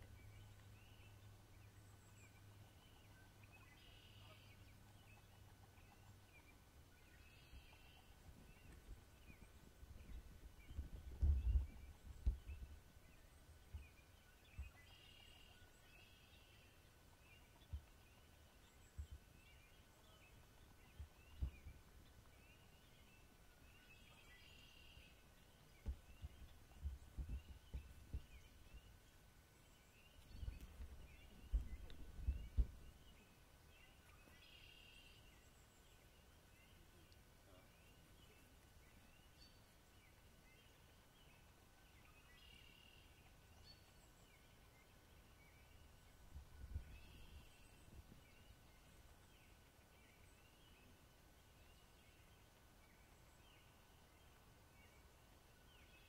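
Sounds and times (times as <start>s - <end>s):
distant high chirping calls: 0.0s - 51.0s.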